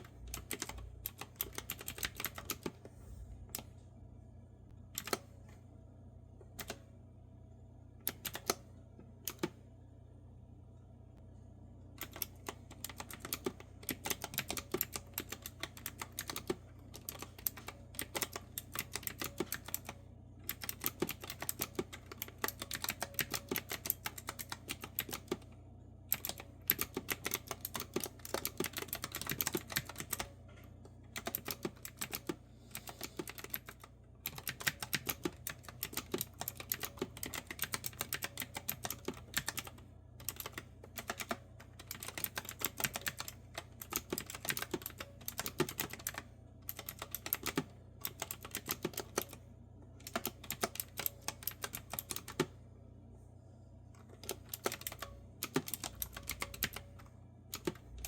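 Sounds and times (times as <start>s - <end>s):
clicky keyboard typing: 0.0s - 2.8s, 5.0s - 5.3s, 6.5s - 6.8s, 8.0s - 9.6s, 12.0s - 25.5s, 26.1s - 30.4s, 31.1s - 49.4s, 50.0s - 52.6s, 54.0s - 58.0s.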